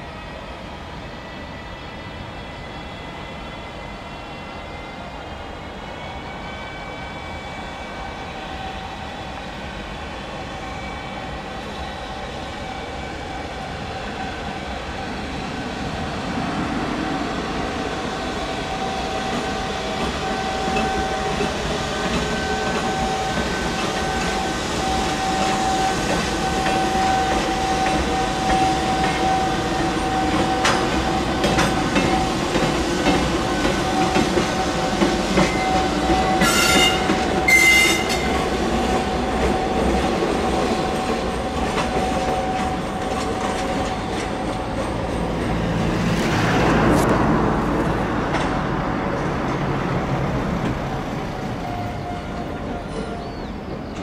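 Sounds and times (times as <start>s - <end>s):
locomotive whine: 0.0s - 54.0s
train wheels rumbling: 0.0s - 54.0s.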